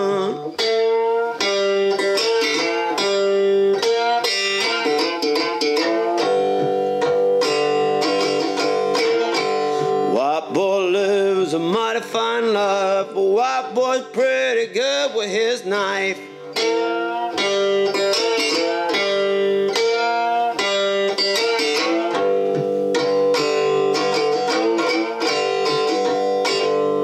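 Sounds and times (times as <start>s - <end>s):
slide guitar playing: 0.0s - 27.0s.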